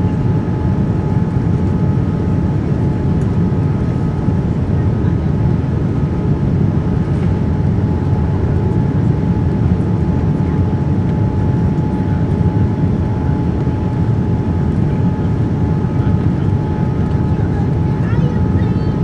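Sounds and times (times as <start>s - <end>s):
low jet engine roar: 0.0s - 19.0s.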